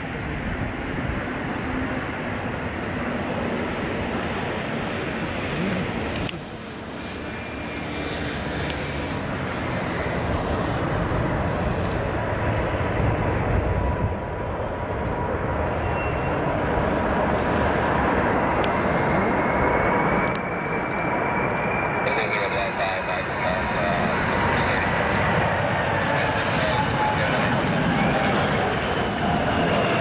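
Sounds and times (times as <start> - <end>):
jet engine whine: 0.0 - 30.0
jet engines roaring: 0.0 - 30.0.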